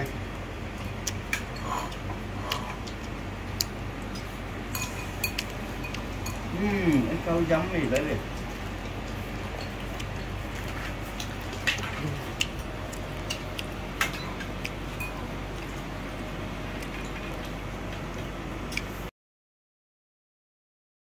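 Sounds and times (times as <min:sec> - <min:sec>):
low room hum: 0:00.0 - 0:19.1.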